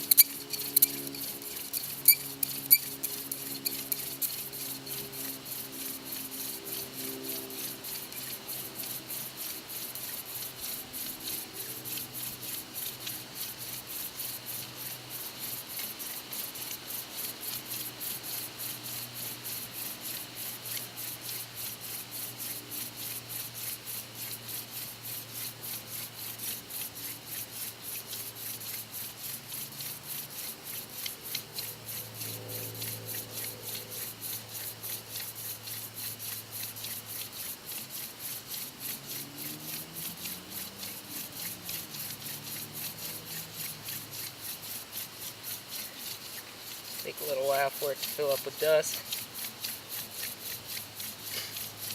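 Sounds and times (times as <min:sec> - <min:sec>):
wooden spindle rasping on board: 0:00.0 - 0:18.4, 0:19.5 - 0:51.9.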